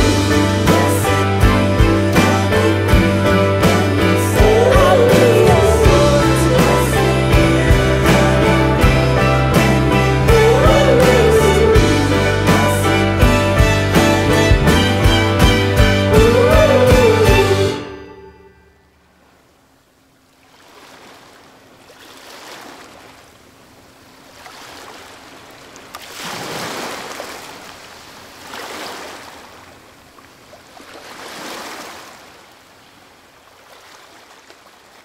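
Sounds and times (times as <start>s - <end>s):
ocean surf waves: 0.0s - 35.0s.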